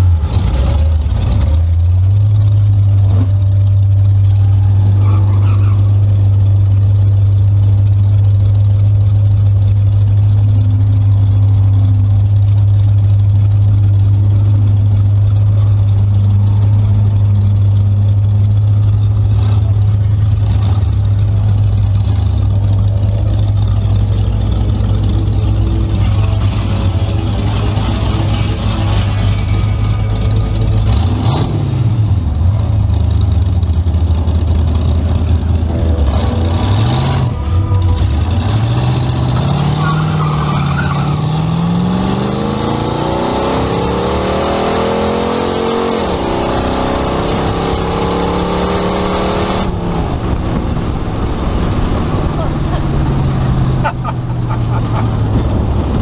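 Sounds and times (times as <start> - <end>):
car engine idling: 0.0 - 43.2, 44.5 - 56.0
engine revving: 10.1 - 56.0.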